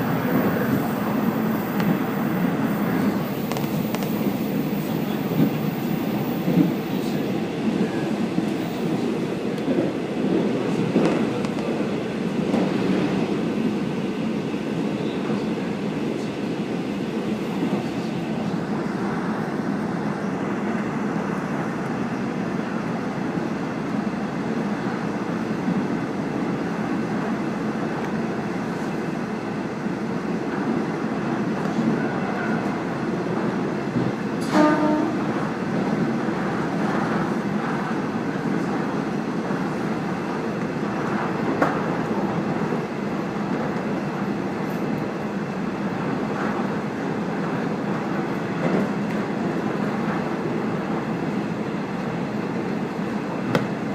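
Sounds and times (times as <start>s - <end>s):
railcar running noise: 0.0s - 53.9s.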